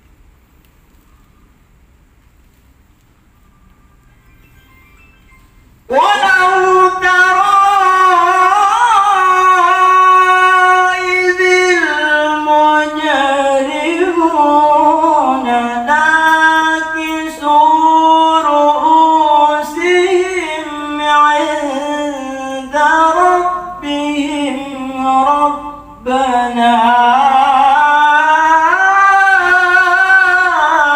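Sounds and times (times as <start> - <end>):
man chanting melodically: 5.9 - 30.9.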